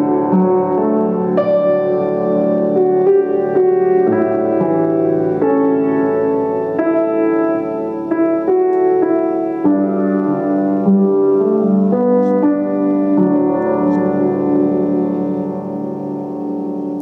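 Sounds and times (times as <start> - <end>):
grand piano melody: 0.0 - 17.0.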